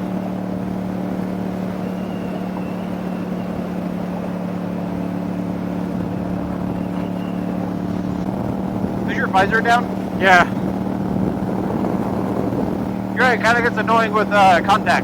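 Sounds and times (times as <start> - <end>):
motorcycle engine cruising: 0.0 - 15.0
wind rush on helmet: 0.0 - 15.0.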